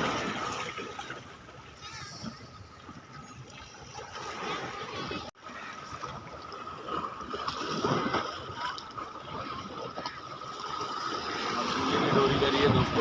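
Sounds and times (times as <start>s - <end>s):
seawater washing and splashing: 0.0s - 13.0s.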